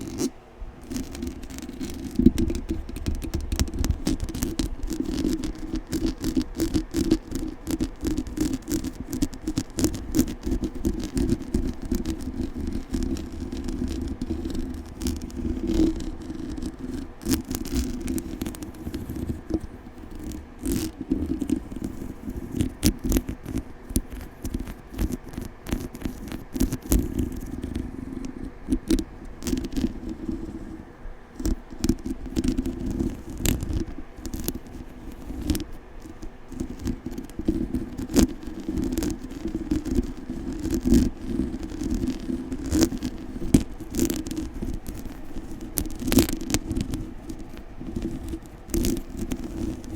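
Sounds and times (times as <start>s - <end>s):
microphone being scratched: 0.0s - 49.9s.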